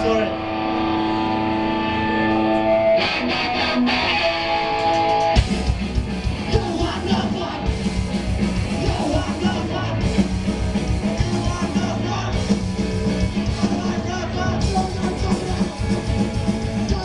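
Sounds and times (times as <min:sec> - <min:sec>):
electric guitar chords: 0:00.0 - 0:17.0
live rock band with drums: 0:00.0 - 0:17.0.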